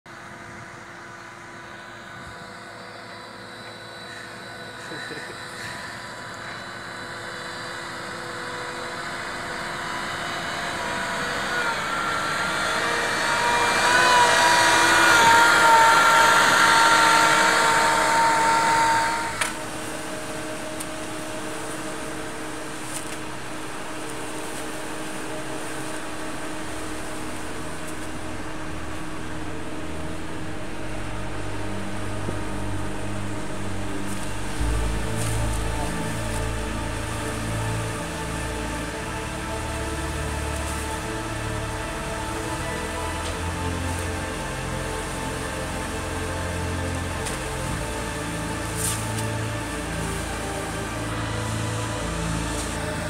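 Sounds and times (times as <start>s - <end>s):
machine whine: 0.1s - 53.0s
quiet machine hum: 0.1s - 53.0s
diesel engine running: 8.1s - 53.0s
low rumble: 8.2s - 53.0s.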